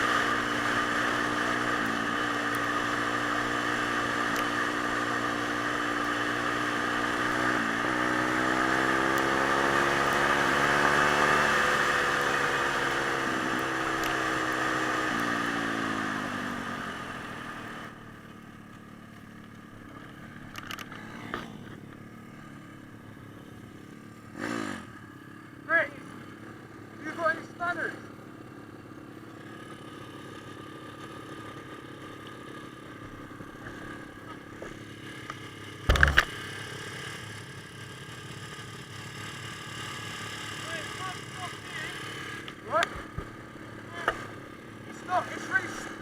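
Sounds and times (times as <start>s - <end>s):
pit bike engine running: 0.0s - 46.0s.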